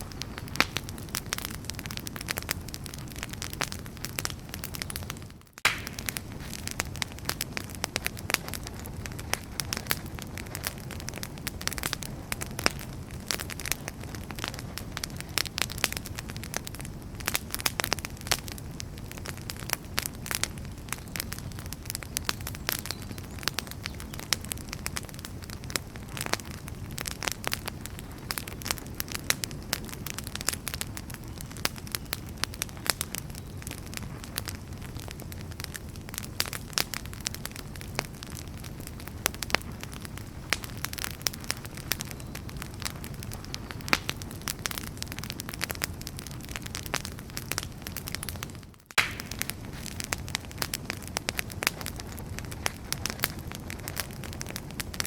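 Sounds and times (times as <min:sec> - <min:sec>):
firewood crackling and popping: 0:00.0 - 0:55.0
low rumble of flames: 0:00.0 - 0:55.0.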